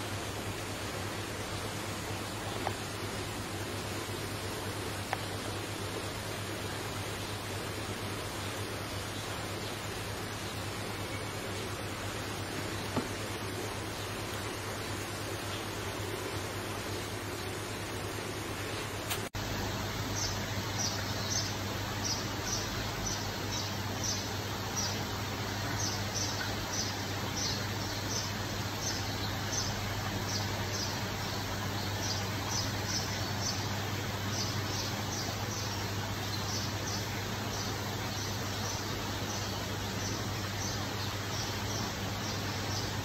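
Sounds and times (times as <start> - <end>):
low hum and hiss: 0.0 - 43.0.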